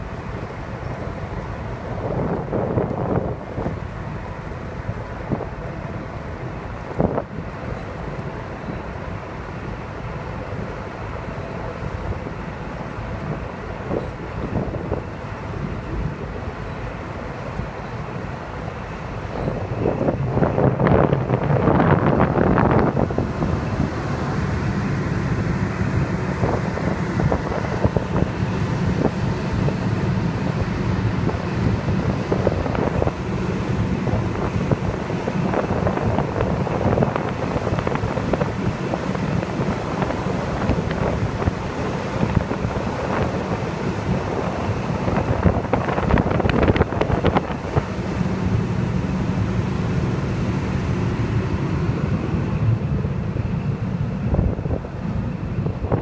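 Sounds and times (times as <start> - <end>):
boat engine running: 0.0 - 56.0
water rushing past hull: 0.0 - 56.0
wind buffeting microphone: 0.0 - 56.0.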